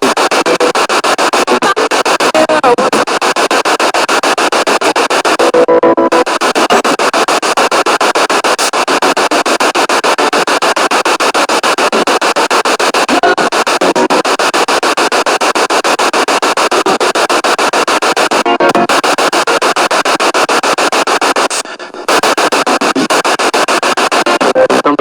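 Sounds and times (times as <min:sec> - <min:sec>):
pulsing radio static: 0:00.0 - 0:25.0
snatches of broadcast sound: 0:00.0 - 0:25.0.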